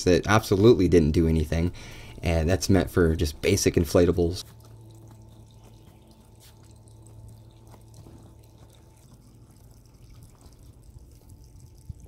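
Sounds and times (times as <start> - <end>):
electric pump humming: 0.3 - 12.0.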